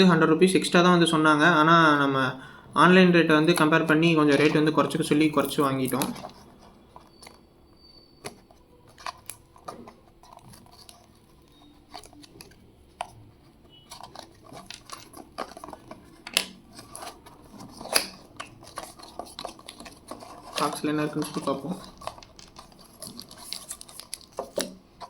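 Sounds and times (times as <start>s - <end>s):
packaging clicks and rustling: 3.4s - 25.0s.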